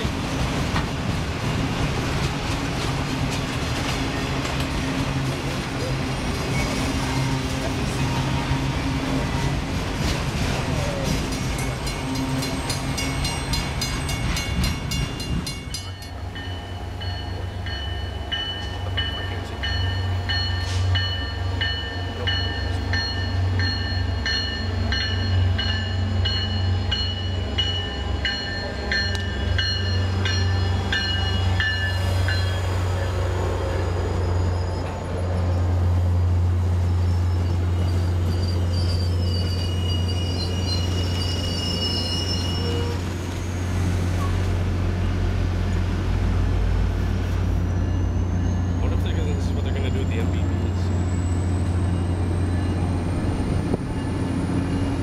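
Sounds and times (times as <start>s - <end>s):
freight train wheels rattling: 0.0s - 45.2s
diesel locomotive engine drone: 0.0s - 55.0s.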